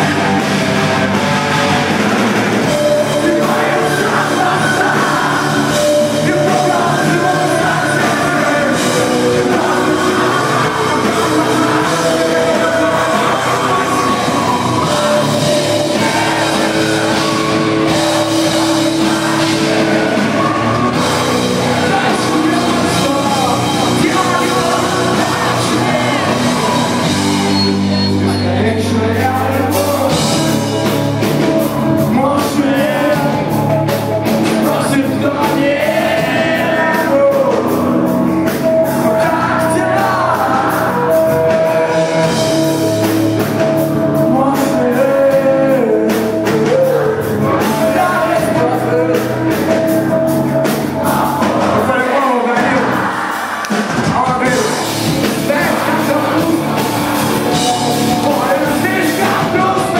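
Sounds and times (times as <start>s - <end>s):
bass guitar: 0.0s - 59.9s
drums: 0.0s - 59.9s
guitar: 0.0s - 59.9s
person singing: 2.6s - 59.9s.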